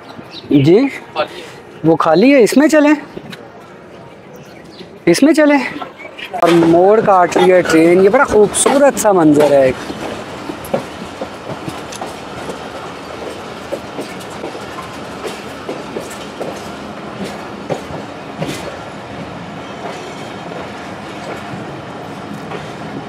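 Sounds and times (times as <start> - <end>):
train coach rumbling: 0.0 - 23.0.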